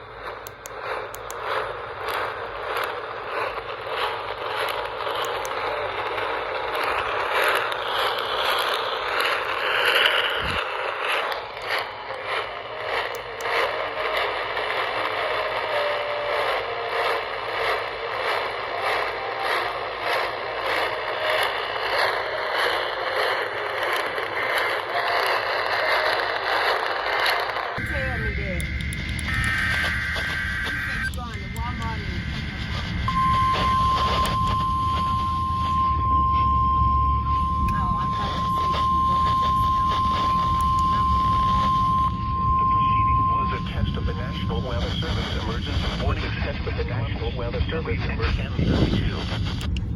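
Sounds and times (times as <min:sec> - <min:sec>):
radio static hiss and crackling: 0:00.0 - 0:36.6, 0:37.3 - 0:49.9.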